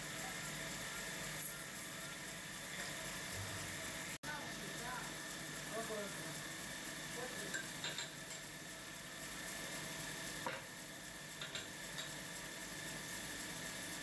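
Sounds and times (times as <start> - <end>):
lathe hissing: 0.0 - 14.0.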